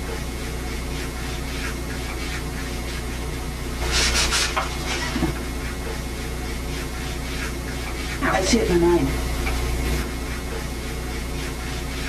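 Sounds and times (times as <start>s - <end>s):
brush scratching on paper: 0.0s - 9.1s, 9.8s - 12.0s
tape hiss and hum: 0.0s - 12.0s.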